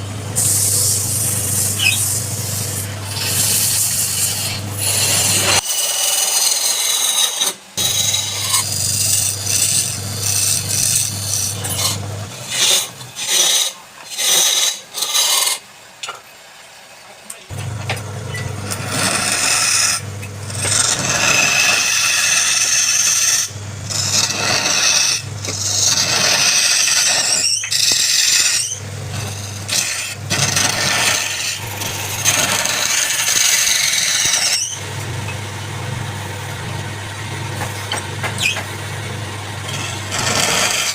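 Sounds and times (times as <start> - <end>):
wood lathe motor hum: 0.0 - 13.3, 17.5 - 40.9
tool cutting spinning wood: 0.0 - 15.6, 17.5 - 40.9.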